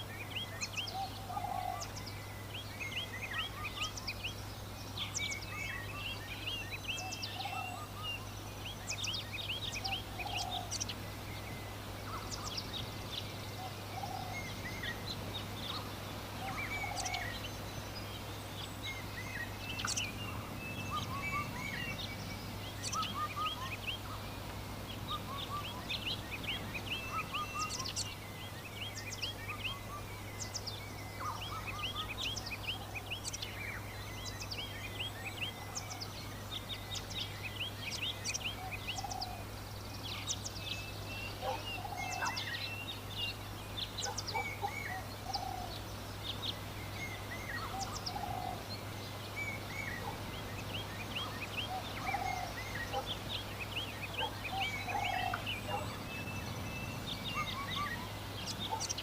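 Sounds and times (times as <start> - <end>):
birds chirping: 0.0 - 59.0
lower bird calls: 0.0 - 59.0.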